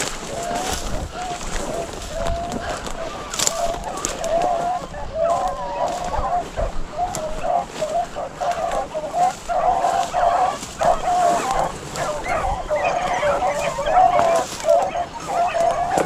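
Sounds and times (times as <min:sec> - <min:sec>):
hounds baying: 0:00.0 - 0:16.0.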